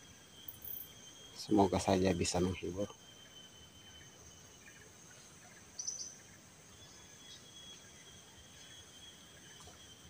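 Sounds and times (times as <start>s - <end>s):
high-pitched insect chirring: 0.0s - 10.0s.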